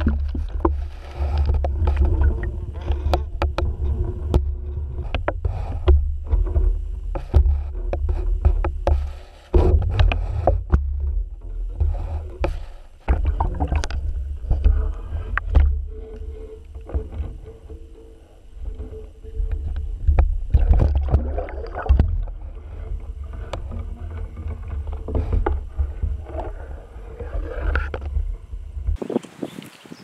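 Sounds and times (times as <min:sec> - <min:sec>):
underwater low rumble: 0:00.0 - 0:29.1
faint steady hum: 0:00.0 - 0:30.0.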